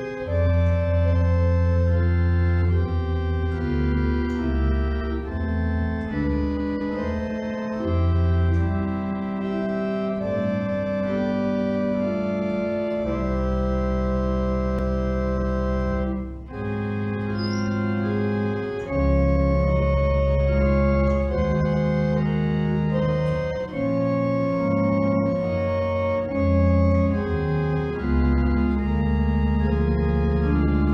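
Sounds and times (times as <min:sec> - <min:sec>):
organ playing sustained chords: 0:00.0 - 0:30.9.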